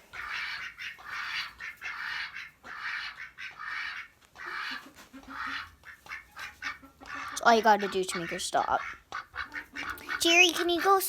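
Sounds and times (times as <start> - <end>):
duck quacking hoarsely: 0.1 - 11.0.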